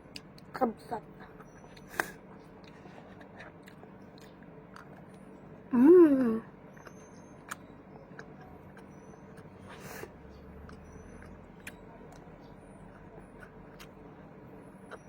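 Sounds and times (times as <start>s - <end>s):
faint eating clicks: 0.0s - 5.7s, 6.7s - 15.0s.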